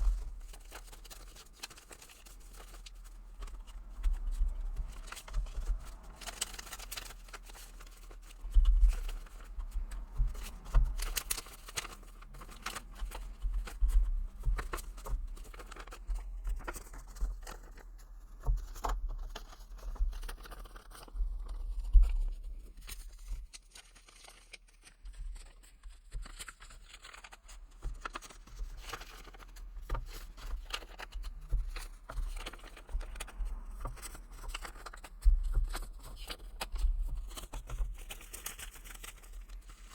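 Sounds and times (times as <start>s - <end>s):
banknotes rustling and crinkling: 0.0s - 39.9s
sharp paper clicks: 0.0s - 39.9s.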